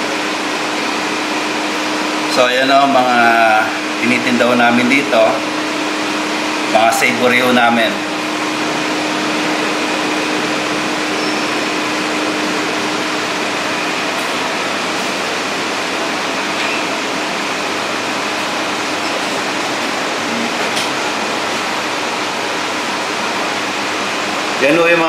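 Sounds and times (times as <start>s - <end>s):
fans rushing: 0.0s - 25.0s.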